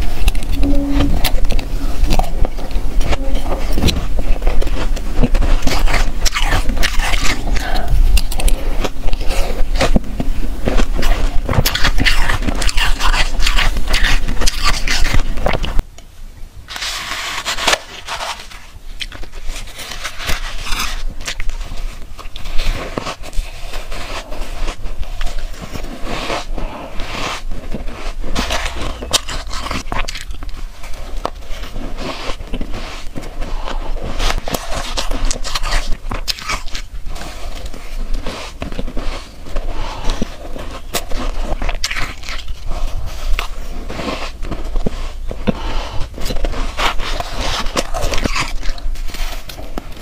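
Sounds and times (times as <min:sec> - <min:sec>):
ice being chewed: 0:00.0 - 0:15.8, 0:16.7 - 0:50.0.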